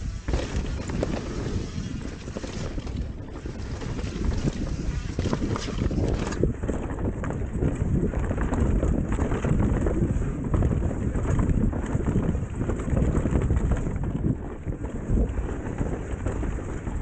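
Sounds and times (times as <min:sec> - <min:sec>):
bike rattling and knocking: 0:00.0 - 0:17.0
tyres rolling on dirt: 0:00.0 - 0:17.0
wind buffeting microphone: 0:00.0 - 0:17.0.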